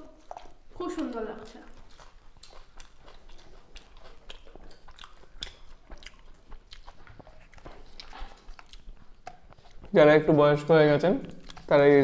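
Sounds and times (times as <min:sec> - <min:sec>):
chewing and lip smacking: 0:00.0 - 0:12.0.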